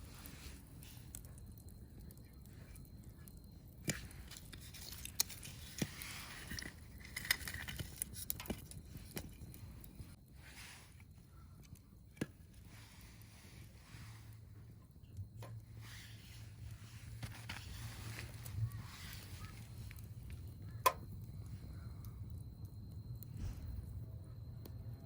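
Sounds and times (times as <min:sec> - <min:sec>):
wood fire crackling and popping: 0:00.0 - 0:24.8.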